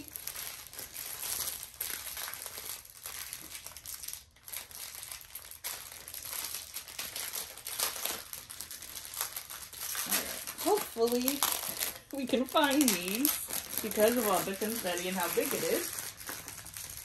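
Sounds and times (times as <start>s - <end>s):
plastic crinkling: 0.0s - 17.0s.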